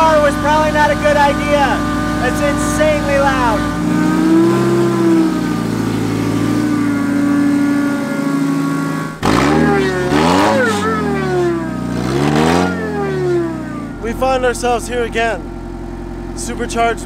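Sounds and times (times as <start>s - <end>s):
car engine idling and revving: 0.0s - 17.0s
supercharger whine: 0.0s - 17.0s.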